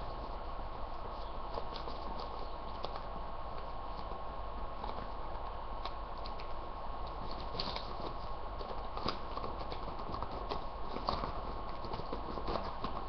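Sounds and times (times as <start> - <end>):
faint steady whine: 0.0 - 13.0
steady hiss: 0.0 - 13.0.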